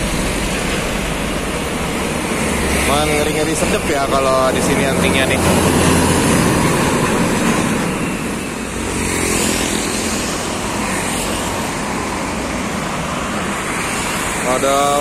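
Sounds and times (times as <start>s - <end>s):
cars passing: 0.0s - 15.0s
motorcycles passing: 0.0s - 15.0s
truck passing: 0.0s - 15.0s.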